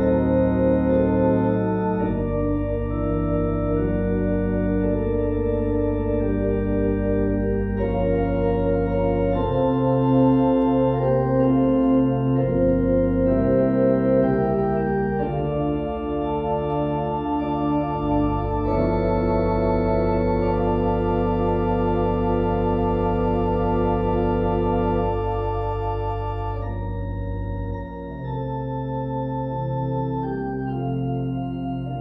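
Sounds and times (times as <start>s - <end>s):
organ playing slow chords: 0.0s - 32.0s.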